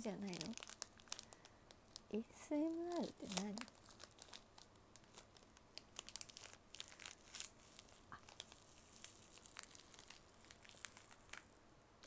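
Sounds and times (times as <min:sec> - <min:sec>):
plastic wrapper crinkling and tearing: 0:00.0 - 0:11.6.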